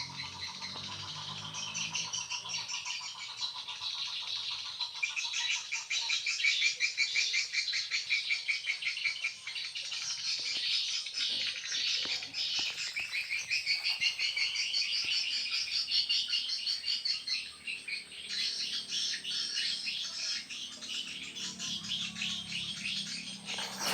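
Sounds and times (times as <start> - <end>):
high-pitched chirping of small animals: 0.0 - 23.9.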